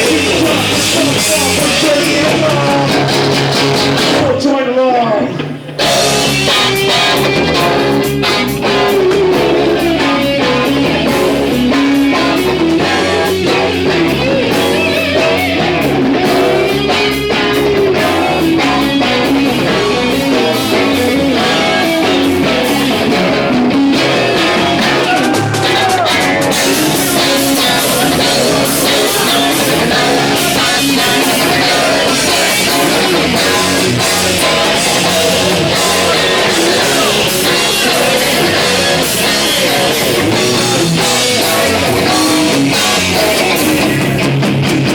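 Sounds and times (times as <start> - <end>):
rock band playing: 0.0 - 44.9.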